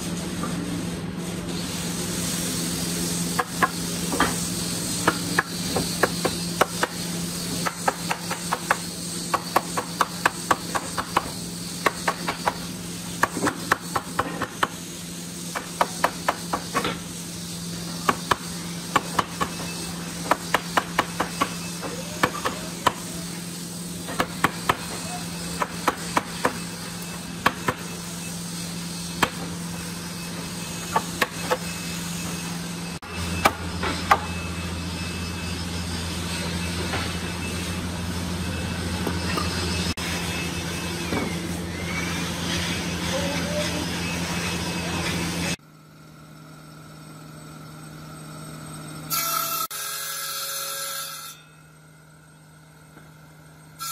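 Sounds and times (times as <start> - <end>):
low machine hum: 0.0 - 49.7.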